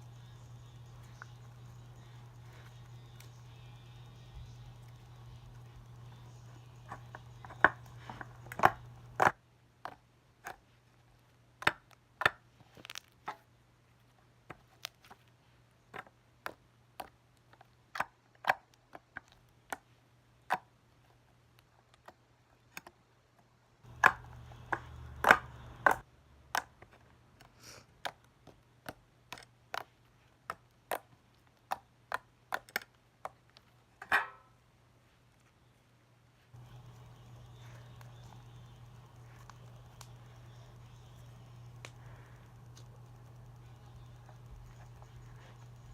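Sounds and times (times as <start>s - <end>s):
low steady hum: 0.0s - 18.0s, 18.8s - 45.9s.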